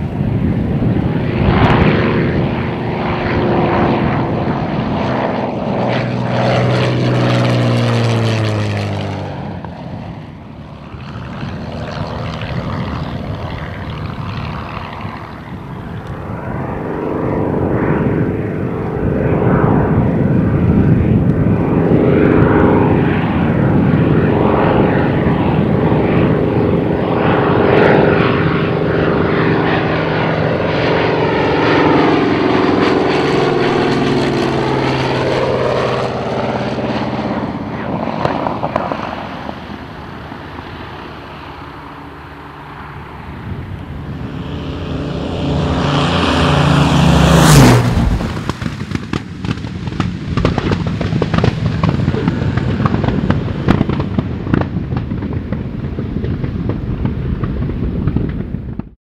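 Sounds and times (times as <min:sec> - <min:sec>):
piston aircraft engine passing: 0:00.0 - 0:58.9
radial aircraft engine passing: 0:00.0 - 0:59.0.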